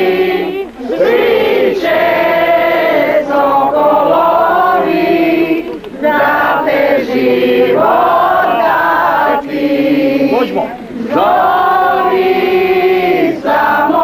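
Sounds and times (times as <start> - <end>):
crowd singing together: 0.0 - 14.0.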